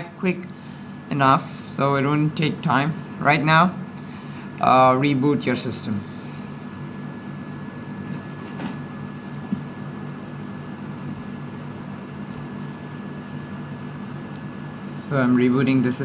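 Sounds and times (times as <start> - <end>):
high-pitched whine: 0.0 - 16.0
low background hum: 0.0 - 16.0.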